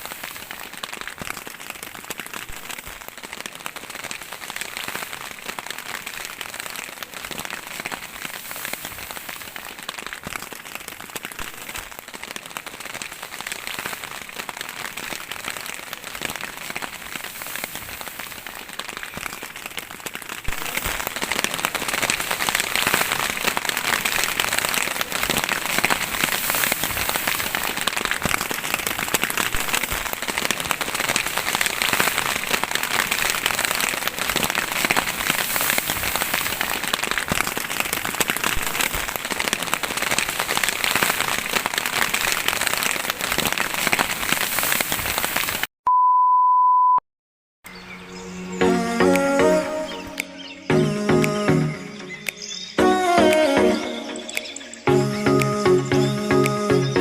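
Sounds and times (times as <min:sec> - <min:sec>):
rain falling: 0:00.0 - 0:45.7.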